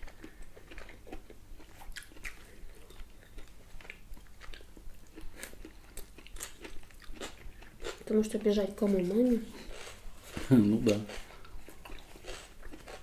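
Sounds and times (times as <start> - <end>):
biting and chewing food: 0.0 - 8.2, 9.6 - 13.0.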